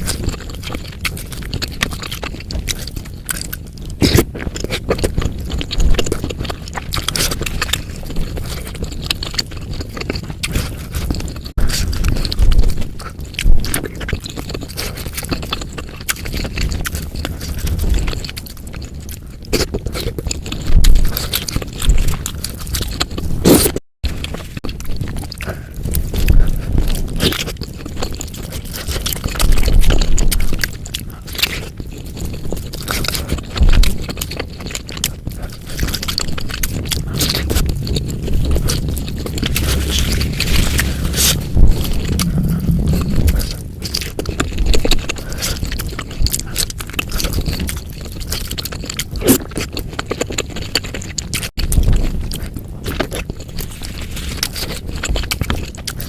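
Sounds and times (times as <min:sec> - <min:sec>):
close chewing and biting: 0:00.0 - 0:56.0.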